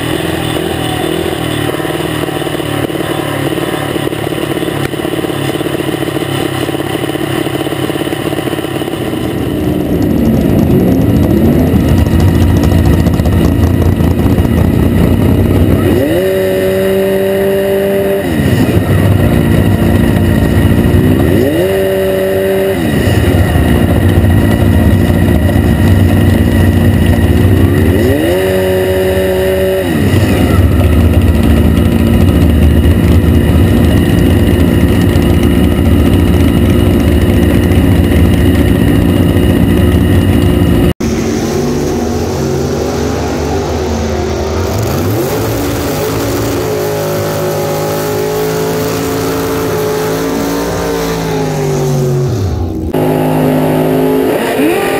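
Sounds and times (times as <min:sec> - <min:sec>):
dragster engine revving: 0:00.0 - 0:54.9.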